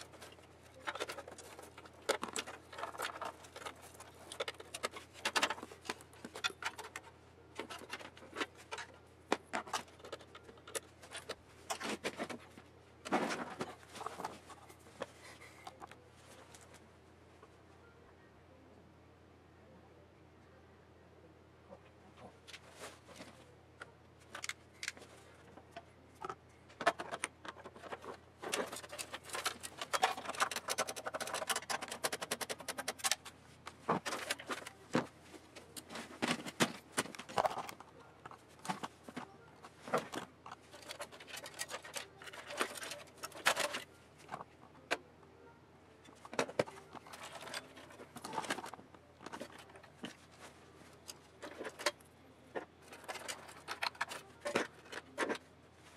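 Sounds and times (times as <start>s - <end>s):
cables and metal parts rattling: 0.0s - 16.8s, 22.4s - 45.0s, 46.0s - 55.9s.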